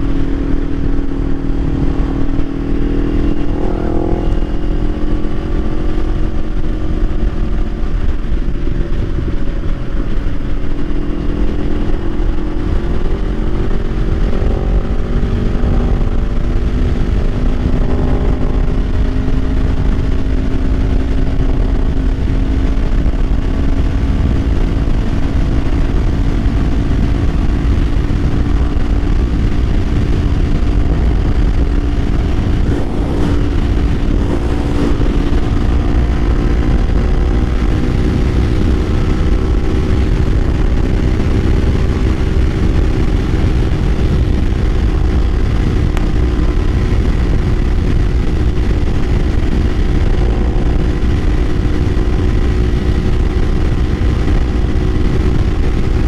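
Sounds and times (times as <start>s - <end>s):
motorcycle engine cruising: 0.0s - 56.0s
wind noise rumble: 0.0s - 56.0s.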